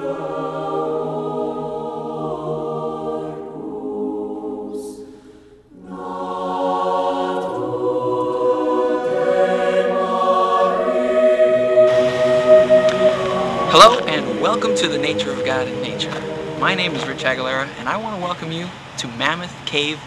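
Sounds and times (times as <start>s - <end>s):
choir singing held chords: 0.0s - 18.9s.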